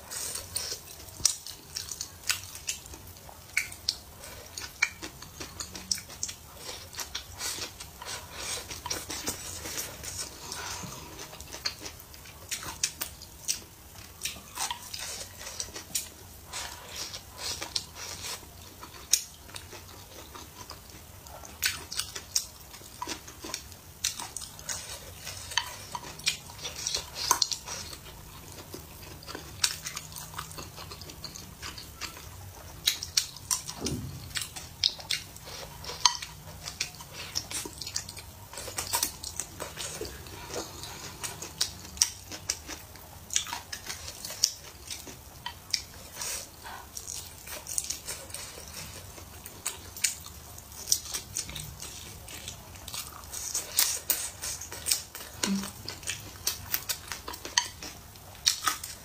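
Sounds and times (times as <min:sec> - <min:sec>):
person chewing: 0:00.0 - 0:59.0.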